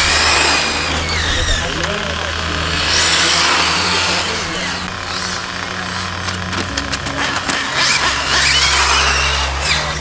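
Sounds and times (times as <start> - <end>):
rc car motors and tyre hiss: 0.0 - 10.0.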